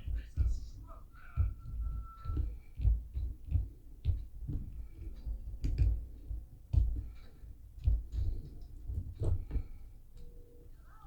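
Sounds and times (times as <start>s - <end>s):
light knocks and clicks: 0.0s - 9.8s.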